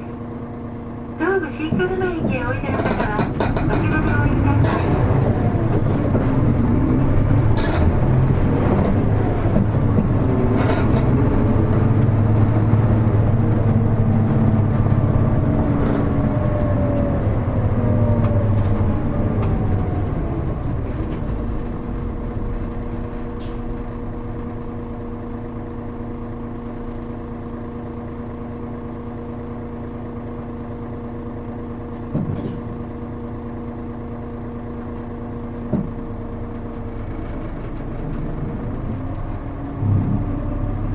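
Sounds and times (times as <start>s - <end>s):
bus diesel engine: 0.0s - 40.9s.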